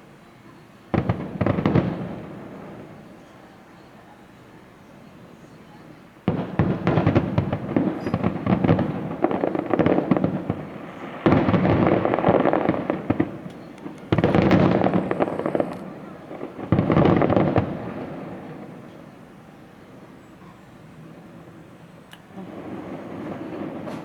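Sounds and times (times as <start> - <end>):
fireworks crackling bangs: 0.9 - 4.0, 5.7 - 24.0.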